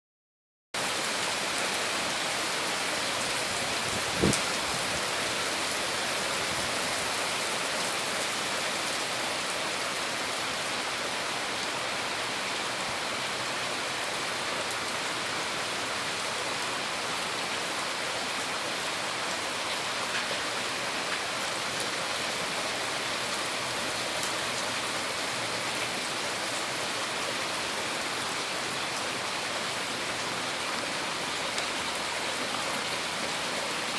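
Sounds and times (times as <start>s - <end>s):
rain on surfaces: 0.8s - 33.9s.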